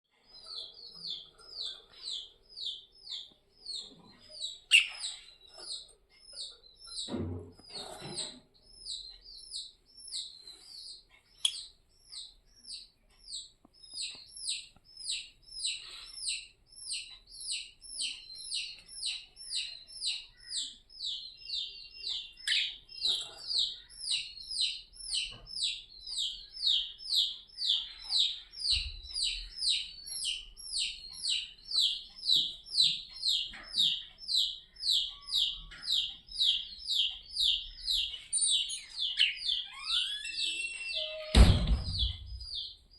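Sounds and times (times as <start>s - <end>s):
small bird chirping: 0.0s - 42.9s.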